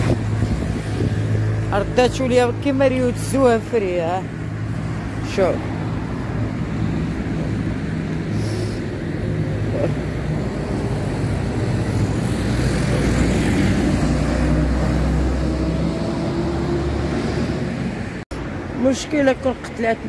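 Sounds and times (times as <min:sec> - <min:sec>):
road noise: 0:00.0 - 0:20.0
vehicle engine humming: 0:00.0 - 0:20.0.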